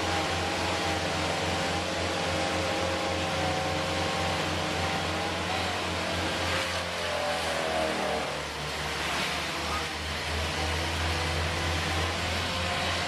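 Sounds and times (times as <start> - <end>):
wash of noise: 0.0 - 13.0.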